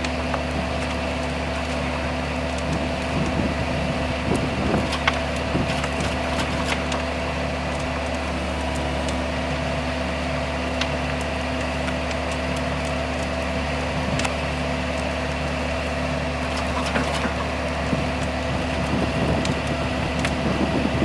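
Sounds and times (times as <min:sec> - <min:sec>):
excavator engine running: 0:00.0 - 0:21.0.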